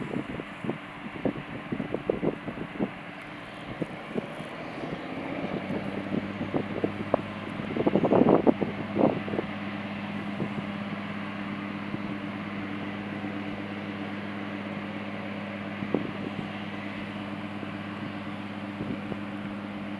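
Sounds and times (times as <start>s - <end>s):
wind noise on microphone: 0.0s - 13.2s, 15.6s - 19.9s
jet engines running: 0.0s - 19.9s.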